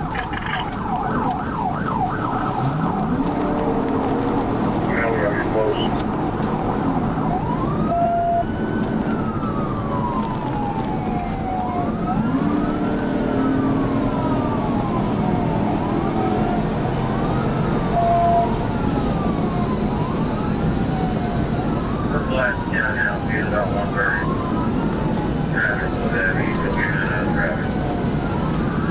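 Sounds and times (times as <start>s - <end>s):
police siren wailing: 0.0s - 28.9s
road noise at high speed: 0.0s - 28.9s.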